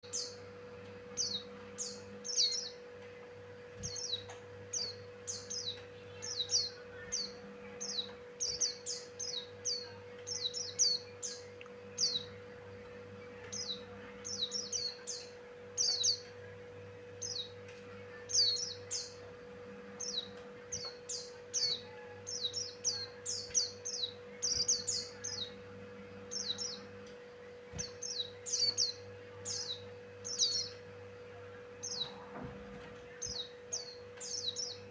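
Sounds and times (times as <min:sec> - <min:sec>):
bird chirping and twittering: 0:00.0 - 0:34.9
faint steady hum: 0:00.0 - 0:34.9.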